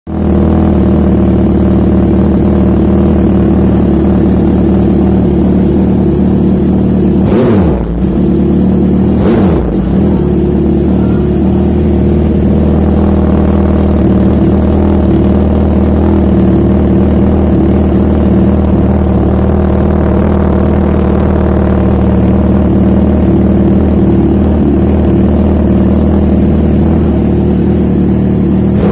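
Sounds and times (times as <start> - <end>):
motorcycle engine running steadily: 0.1 - 28.9.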